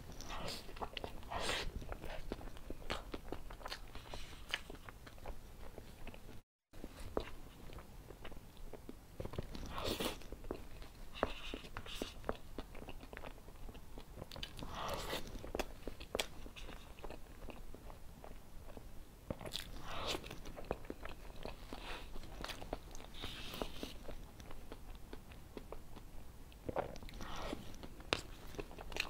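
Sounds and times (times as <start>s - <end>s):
wet chewing: 0.1s - 29.0s.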